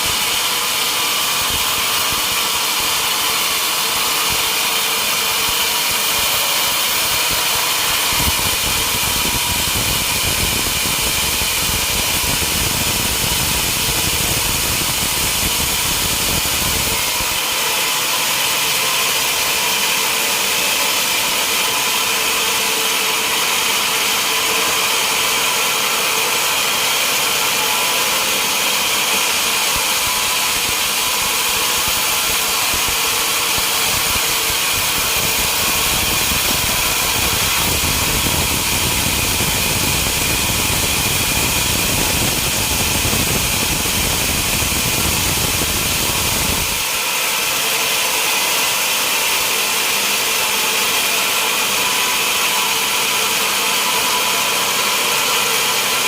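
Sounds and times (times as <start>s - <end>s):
sawmill saw cutting logs: 0.0s - 56.0s.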